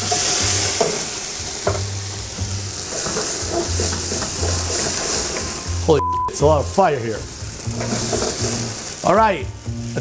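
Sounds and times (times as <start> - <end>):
alcohol sizzling in a frying pan: 0.0 - 10.0.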